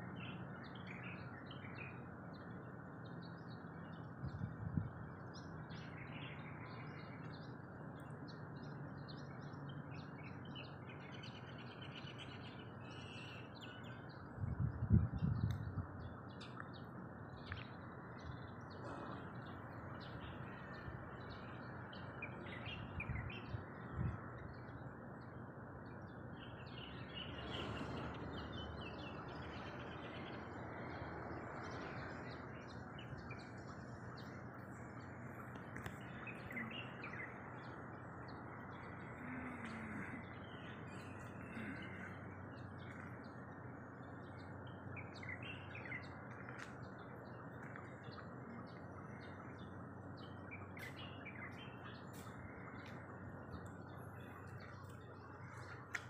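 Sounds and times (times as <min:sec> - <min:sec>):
small birds chirping: 0:00.0 - 0:56.0
steady background noise: 0:00.0 - 0:56.0.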